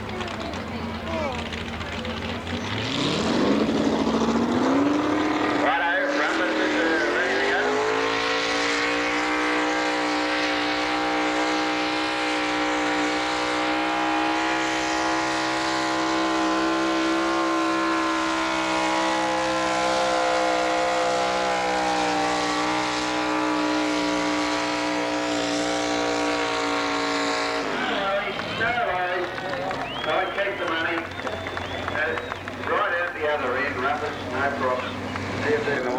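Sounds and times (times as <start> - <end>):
tractor engine at full throttle: 0.0 - 35.9.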